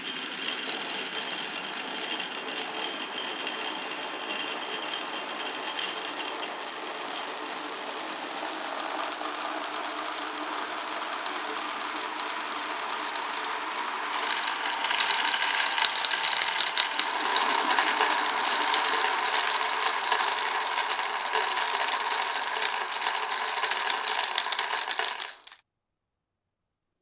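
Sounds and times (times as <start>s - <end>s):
marbles rattling on wooden track: 0.0s - 25.6s.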